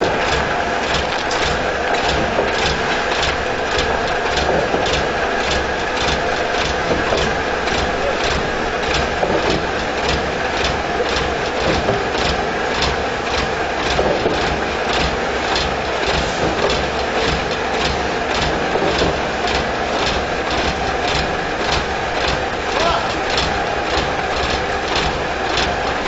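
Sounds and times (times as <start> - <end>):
engine drone: 0.0 - 26.0
mechanical clatter: 0.0 - 26.0.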